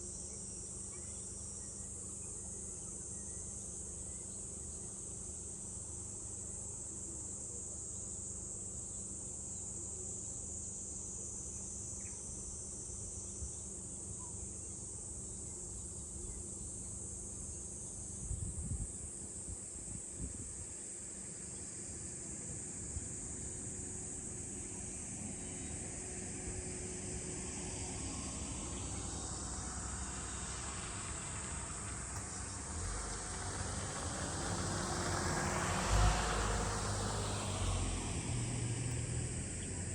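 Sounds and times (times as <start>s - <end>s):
cicada chorus drone: 0.0s - 39.9s.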